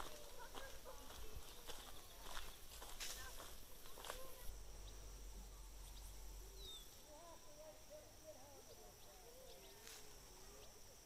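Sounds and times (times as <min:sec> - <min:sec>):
bird chirp: 0:00.0 - 0:11.0
distant people calling: 0:00.0 - 0:11.0
high insect drone: 0:00.0 - 0:11.0.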